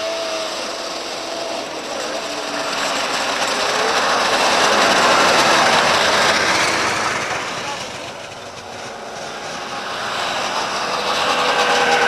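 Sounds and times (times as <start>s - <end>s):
racing snowmobile engines: 0.0s - 12.0s.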